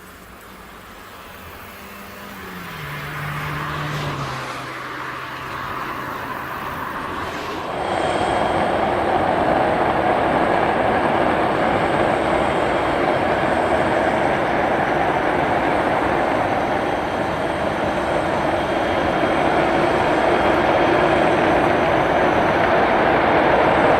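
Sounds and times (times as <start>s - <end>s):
faint high engine whine: 0.0s - 23.9s
jet engines roaring: 0.0s - 23.9s.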